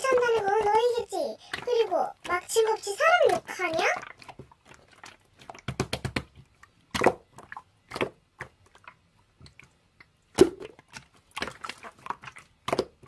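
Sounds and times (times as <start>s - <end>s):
slime squishing: 0.0s - 13.0s.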